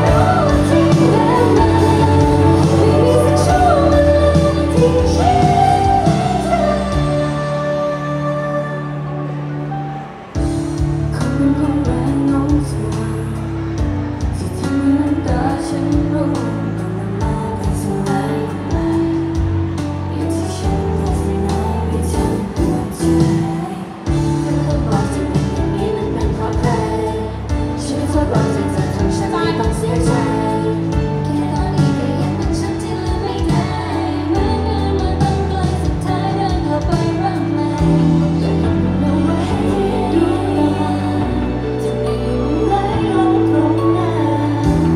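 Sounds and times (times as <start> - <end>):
pop song over sound system: 0.0 - 44.9
woman singing: 0.0 - 44.9.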